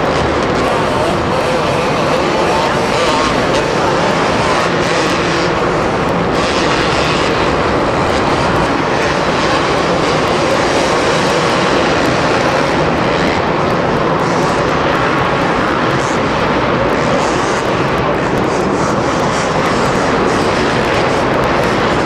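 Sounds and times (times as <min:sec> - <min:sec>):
motorcycle engines droning: 0:00.0 - 0:22.0.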